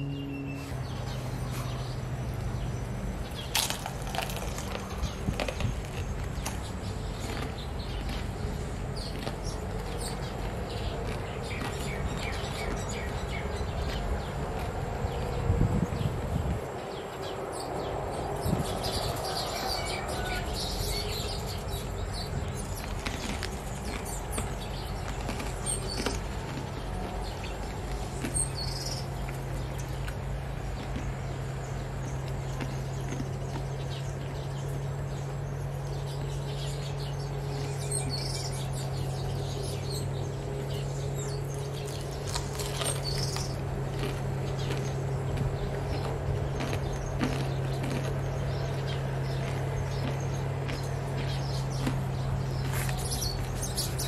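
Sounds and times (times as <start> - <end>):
birds chirping: 0.0 - 54.0
steady background noise: 0.0 - 54.0
steady low hum: 0.0 - 54.0.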